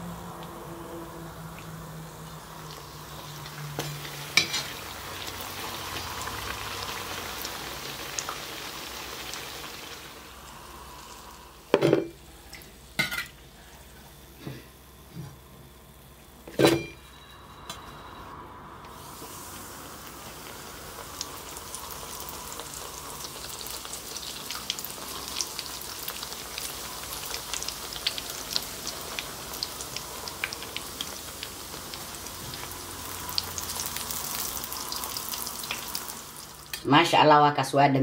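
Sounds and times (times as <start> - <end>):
dough sizzling in hot oil: 0.0 - 16.5, 17.1 - 37.2.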